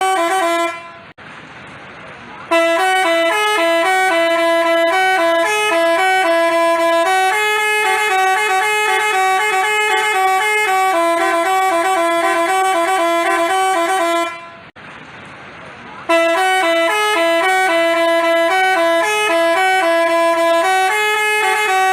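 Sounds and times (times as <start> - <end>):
bus horn playing a tune: 0.0 - 1.2, 2.5 - 14.8, 16.1 - 21.9.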